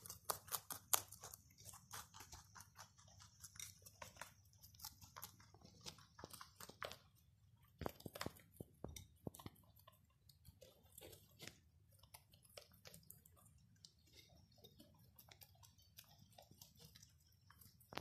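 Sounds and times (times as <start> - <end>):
rabbits chewing greens: 0.0 - 18.0.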